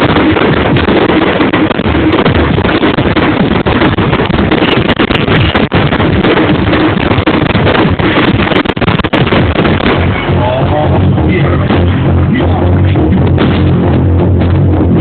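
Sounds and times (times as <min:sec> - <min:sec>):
fireworks rumble and crackle: 0:00.0 - 0:15.0.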